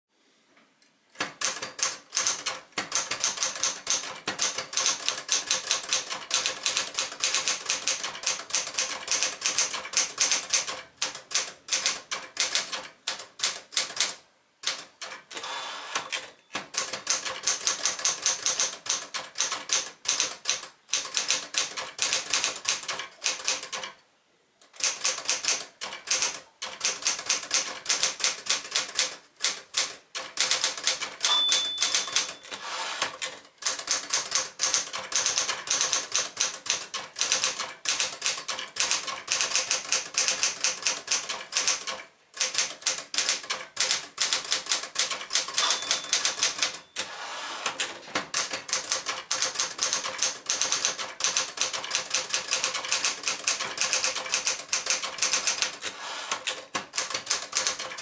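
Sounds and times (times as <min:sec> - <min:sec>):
typewriter keystroke clacks: 0:01.2 - 0:24.0, 0:24.8 - 0:47.1, 0:47.7 - 0:58.0.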